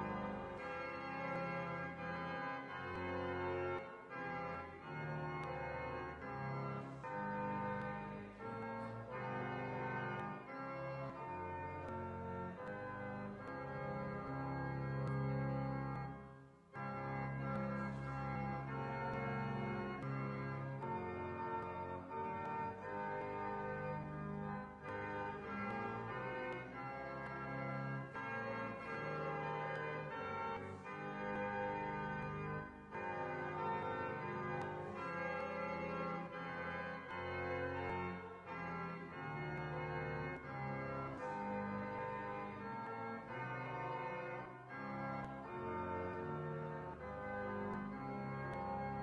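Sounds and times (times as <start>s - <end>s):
organ playing slow hymn: 0.0s - 49.0s.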